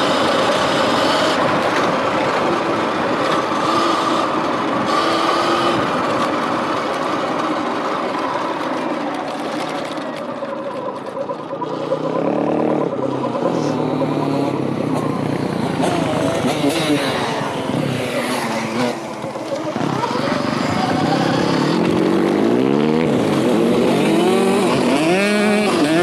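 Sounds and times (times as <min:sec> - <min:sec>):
tyre and riding noise: 0:00.0 - 0:26.0.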